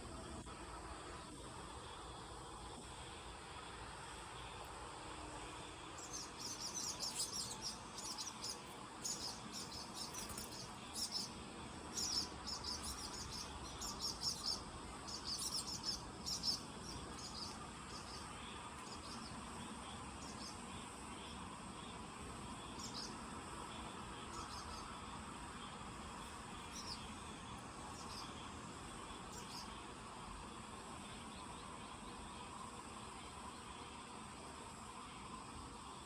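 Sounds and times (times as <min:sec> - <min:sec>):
faint background hiss: 0:00.0 - 0:36.0.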